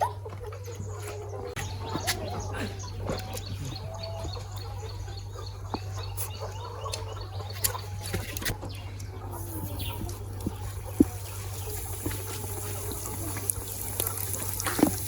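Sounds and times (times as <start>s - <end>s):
chickens clucking: 0.0s - 15.0s
small birds chirping: 0.0s - 15.0s
steady low hum: 0.2s - 15.0s.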